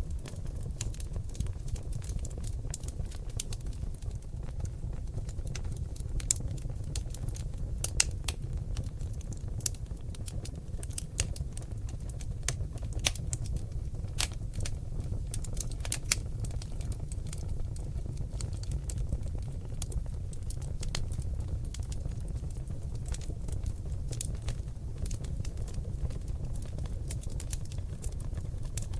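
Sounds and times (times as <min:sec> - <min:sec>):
low rumble of flames: 0:00.0 - 0:28.9
wood fire crackling and popping: 0:00.0 - 0:28.9.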